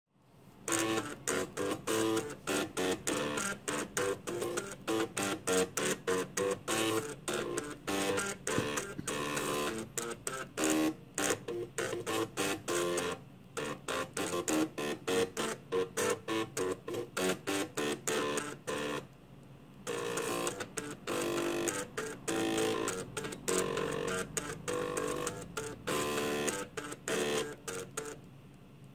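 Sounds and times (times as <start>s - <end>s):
floppy drive motors buzzing notes: 0.6s - 19.2s, 19.8s - 28.3s.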